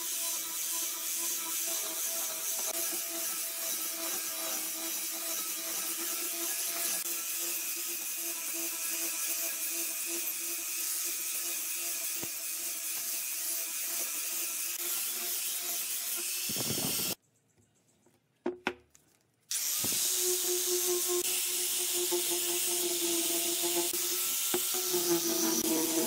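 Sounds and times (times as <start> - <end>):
angle grinder sanding wood: 0.0 - 17.2, 19.5 - 26.0.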